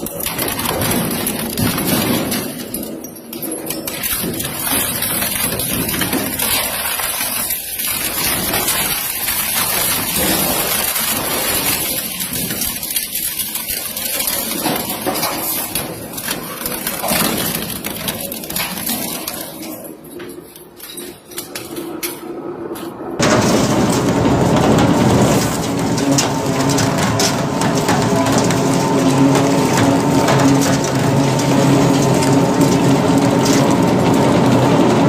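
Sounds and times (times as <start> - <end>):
shredder machine grinding: 0.0 - 3.0, 3.6 - 19.7, 23.2 - 35.0.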